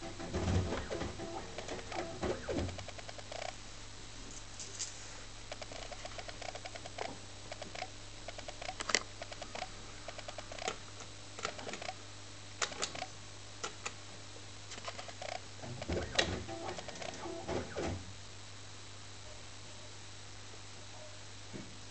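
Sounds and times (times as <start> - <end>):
electrical hum: 0.0 - 21.9.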